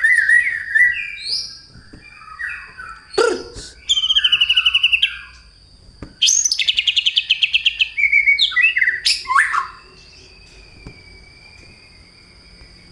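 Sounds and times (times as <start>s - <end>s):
bird singing chattering notes: 0.0s - 10.8s.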